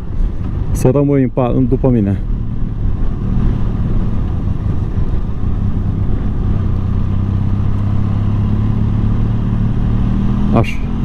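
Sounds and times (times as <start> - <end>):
wind rushing over microphone: 0.0 - 11.0
motorcycle engine running: 1.5 - 11.0.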